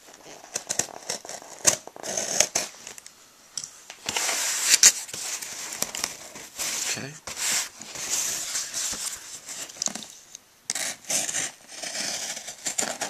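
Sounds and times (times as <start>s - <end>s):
packing tape and cardboard tearing: 0.1s - 2.9s, 4.0s - 13.0s.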